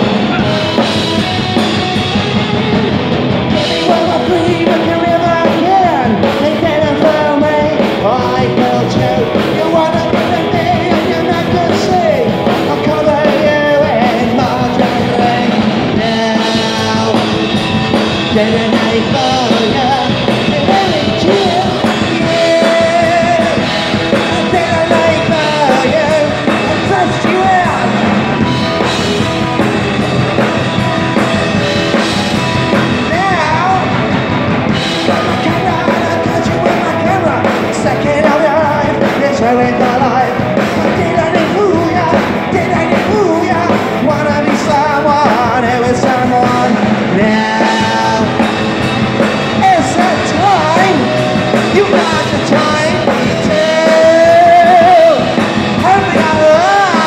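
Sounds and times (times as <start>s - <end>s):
drum kit: 0.0s - 57.0s
electric bass: 0.0s - 57.0s
electric guitar: 0.0s - 57.0s
person singing: 0.0s - 57.0s.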